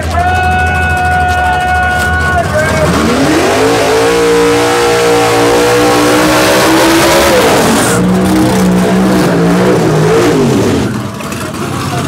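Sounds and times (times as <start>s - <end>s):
race car engine revving: 0.0s - 12.0s.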